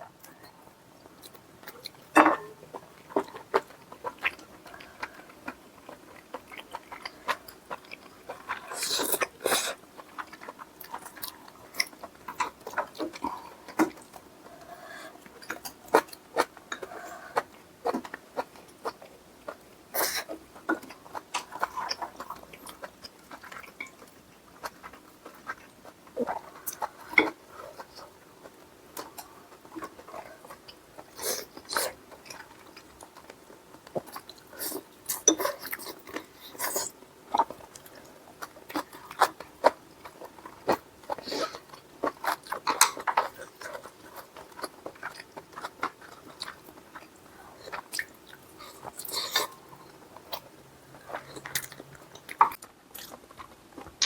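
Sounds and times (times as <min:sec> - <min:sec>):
chewing and biting: 0:01.2 - 0:54.0.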